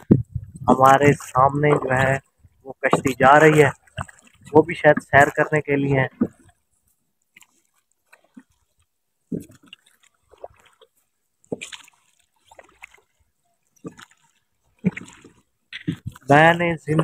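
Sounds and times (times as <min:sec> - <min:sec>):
oars splashing through water: 0:00.0 - 0:17.0.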